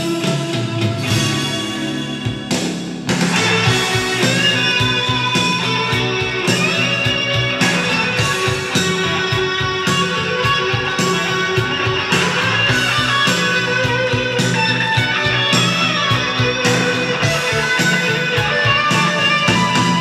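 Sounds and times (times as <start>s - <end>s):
rock music from speakers: 0.0s - 20.0s.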